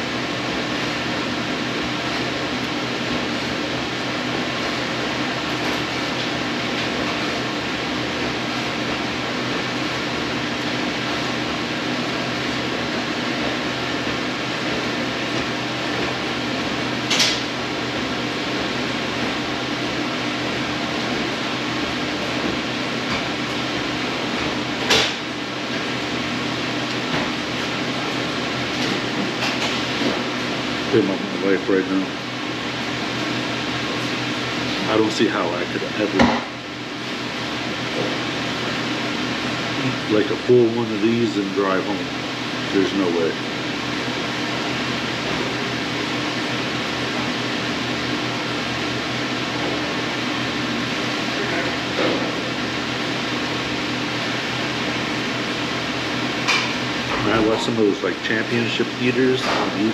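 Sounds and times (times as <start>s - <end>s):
ventilation fan whooshing: 0.0s - 59.9s.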